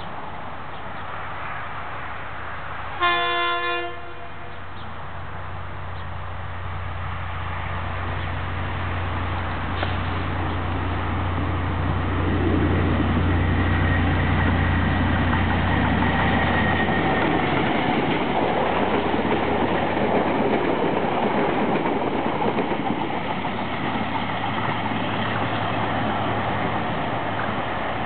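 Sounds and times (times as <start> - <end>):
diesel locomotive engine drone: 0.0 - 28.0
train wheels rolling on rails: 3.8 - 28.0.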